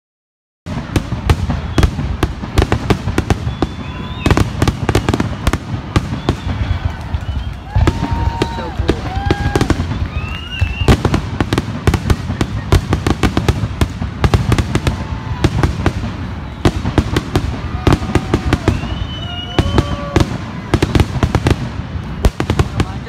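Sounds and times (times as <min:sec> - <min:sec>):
fireworks bursts and crackling: 0:00.7 - 0:23.0.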